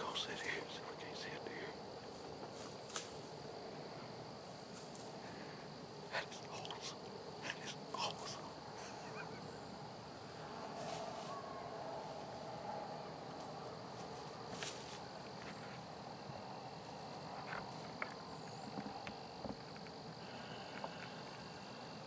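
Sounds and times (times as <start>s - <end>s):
faint high-pitched hum: 0.0s - 22.0s.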